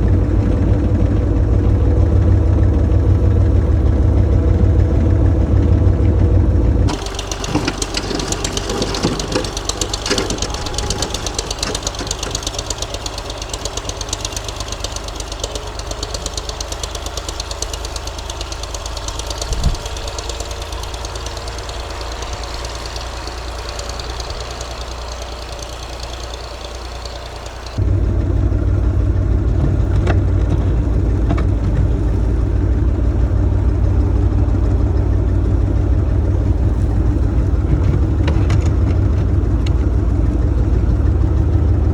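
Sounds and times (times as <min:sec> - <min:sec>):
diesel tractor engine chugging: 0:00.0 - 0:41.9.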